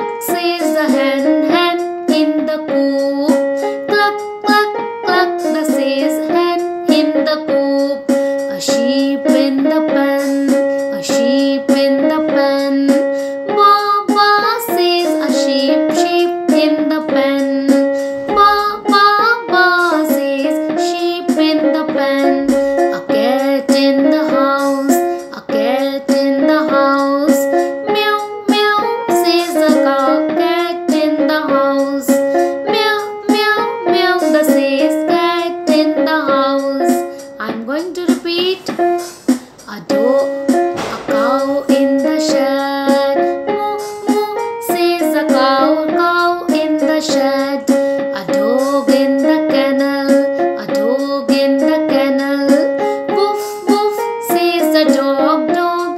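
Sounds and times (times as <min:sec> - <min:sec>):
rhythmic instrumental backing: 0:00.0 - 0:55.9
woman singing: 0:00.0 - 0:55.9.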